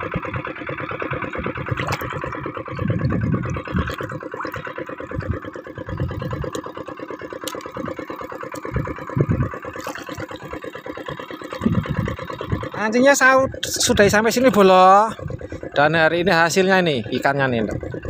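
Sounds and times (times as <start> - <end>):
diesel engine chugging: 0.0 - 18.0.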